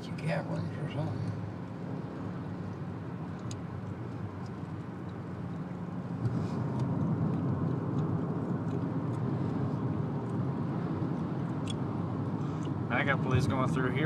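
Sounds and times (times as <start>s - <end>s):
car tyre and engine rumble: 0.0s - 14.0s.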